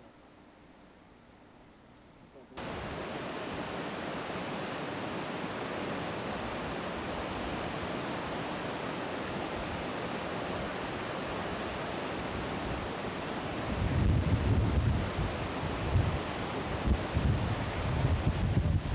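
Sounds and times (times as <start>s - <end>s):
rush of falling water: 2.6s - 18.9s.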